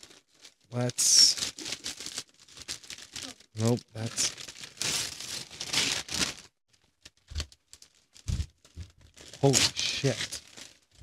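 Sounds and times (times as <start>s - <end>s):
wrapping paper tearing: 0.0s - 11.0s
paper crinkling: 1.4s - 11.0s.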